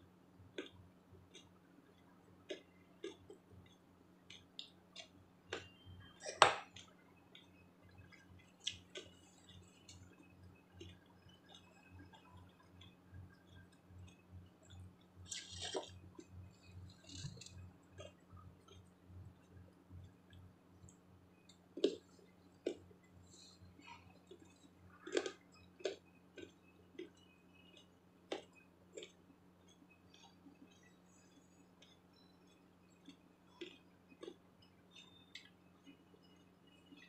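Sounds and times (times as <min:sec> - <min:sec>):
low steady hum: 0:00.0 - 0:37.0
chewing salad: 0:00.5 - 0:37.0.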